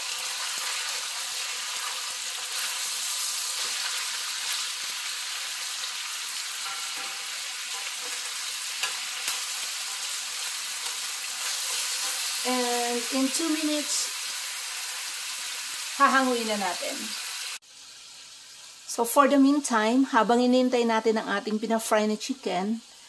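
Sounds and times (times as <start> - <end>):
chicken sizzling in oil: 0.0 - 19.9.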